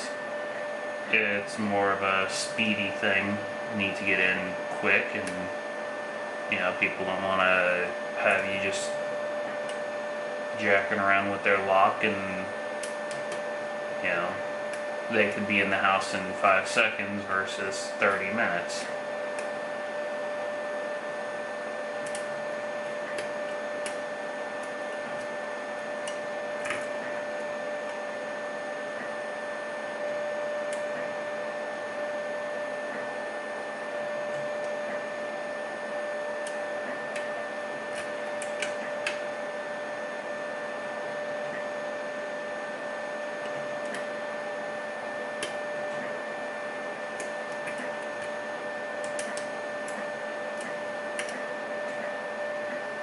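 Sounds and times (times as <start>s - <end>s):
mechanical hum with whining tones: 0.0s - 53.0s.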